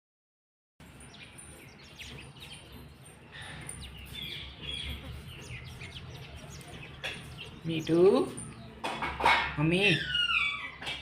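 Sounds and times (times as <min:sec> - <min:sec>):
parrot chirping: 0:01.1 - 0:11.0.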